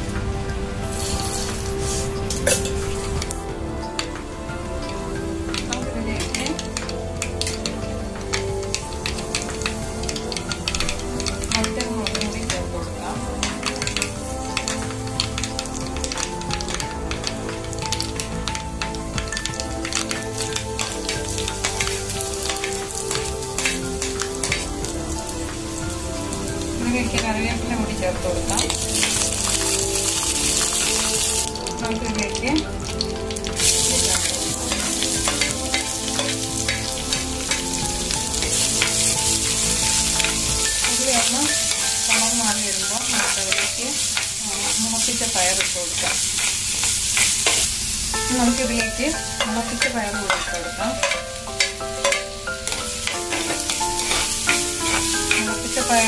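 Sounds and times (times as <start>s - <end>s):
hot oil sizzling and crackling: 0.0s - 56.0s
sharp pops of frying seeds: 1.5s - 56.0s.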